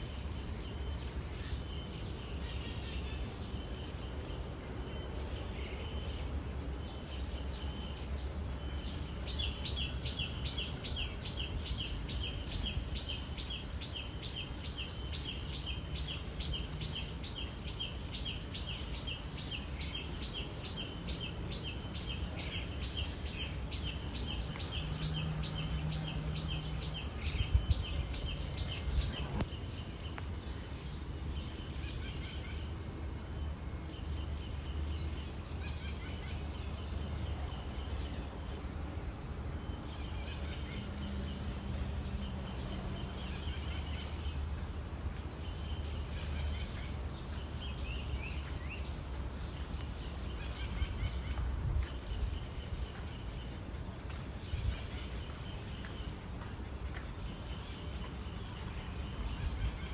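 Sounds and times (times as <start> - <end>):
cicadas droning: 0.0 - 59.9.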